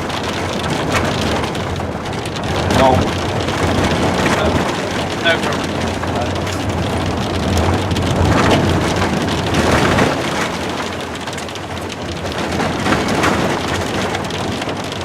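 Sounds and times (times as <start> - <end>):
low road and engine rumble: 0.0 - 15.0
vehicle clattering on rocky road: 0.0 - 15.0.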